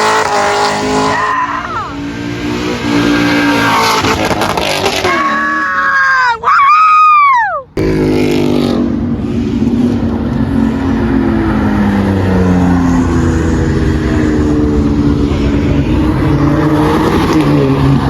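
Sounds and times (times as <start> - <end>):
car engine at high revs: 0.0 - 5.9, 7.8 - 18.0.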